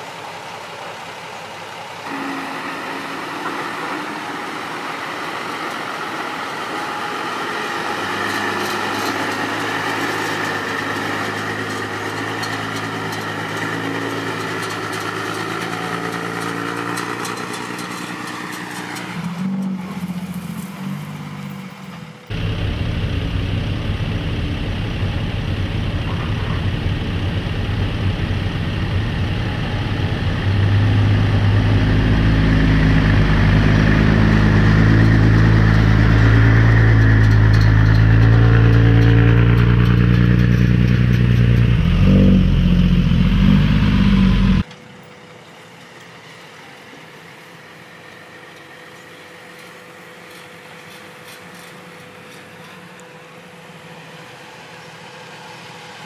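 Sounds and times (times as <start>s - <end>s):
heavy diesel truck engine: 0.0s - 56.0s.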